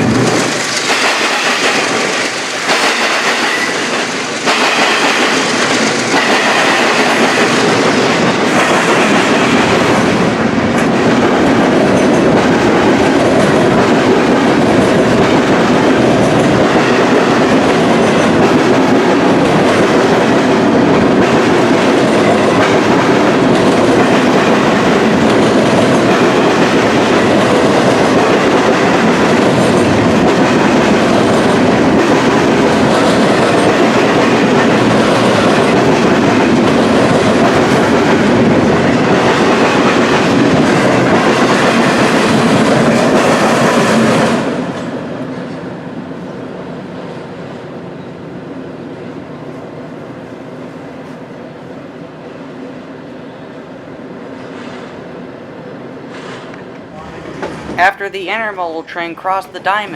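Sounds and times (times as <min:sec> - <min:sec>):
freight train wheels clattering: 0:00.0 - 0:45.6, 0:56.0 - 0:58.7.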